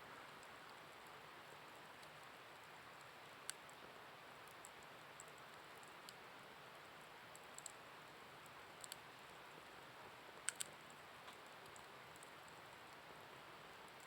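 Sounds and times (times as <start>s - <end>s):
low steady hiss: 0.0s - 14.0s
wood fire crackling: 0.1s - 14.0s.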